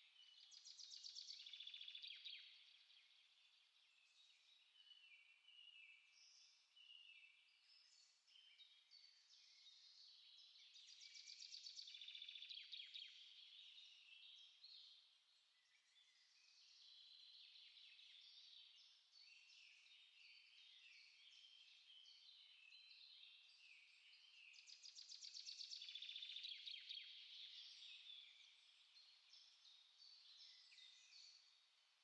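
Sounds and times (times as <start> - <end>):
songbirds chirping and singing: 0.0 - 32.0.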